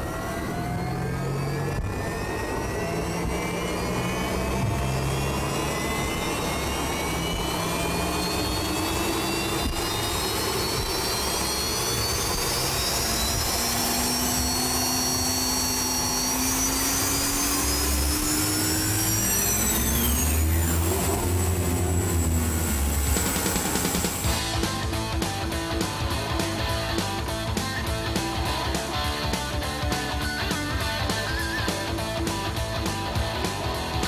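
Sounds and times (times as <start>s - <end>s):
deep engine rumble: 0.0s - 34.0s
gas turbine engine jet whine: 0.0s - 34.0s.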